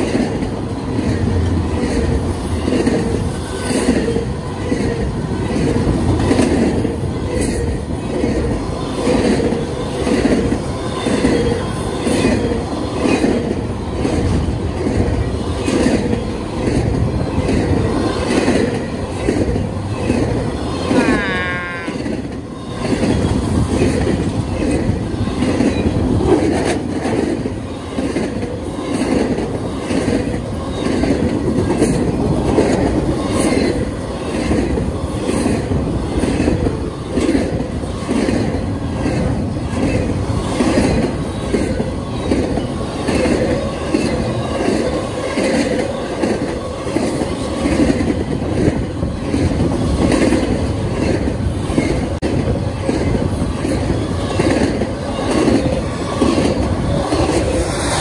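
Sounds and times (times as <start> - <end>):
rail clickety-clack: 0.0 - 58.0
train wheels rumbling on rail: 0.0 - 58.0.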